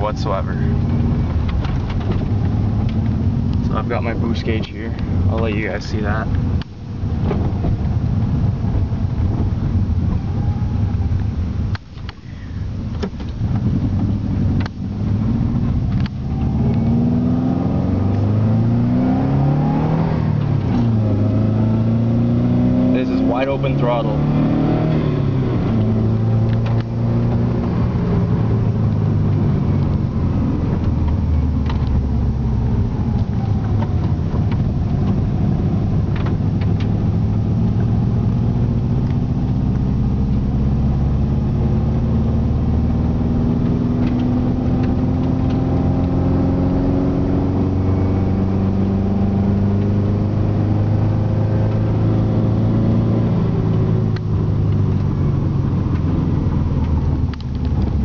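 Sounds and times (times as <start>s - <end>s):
car engine under hard throttle: 0.0s - 58.0s.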